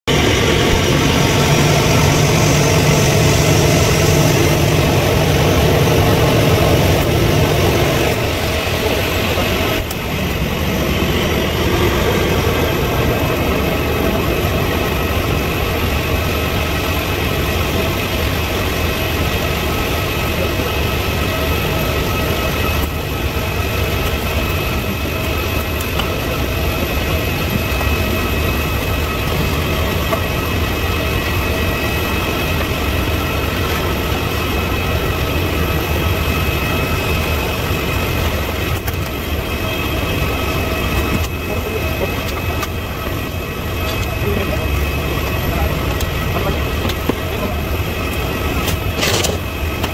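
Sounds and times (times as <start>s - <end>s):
high steady whine: 0.0s - 49.9s
idling engines and machinery drone: 0.0s - 49.9s
low hum: 0.0s - 49.9s.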